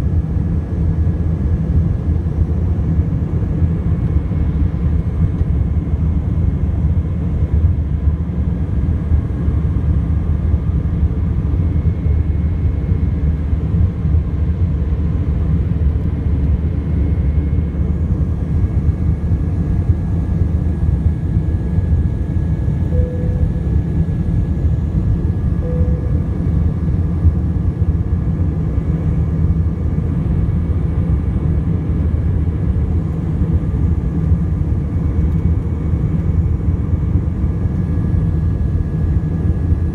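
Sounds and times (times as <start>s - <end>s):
faint steady whines: 0.0s - 39.9s
jet engine rumble in cabin: 0.0s - 39.9s.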